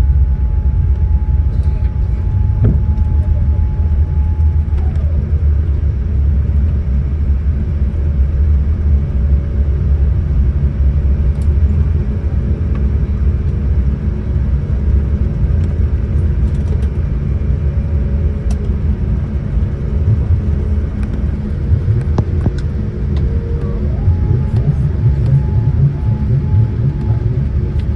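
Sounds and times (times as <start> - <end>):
airliner cabin rumble: 0.0 - 27.9
faint engine tone: 0.0 - 27.9.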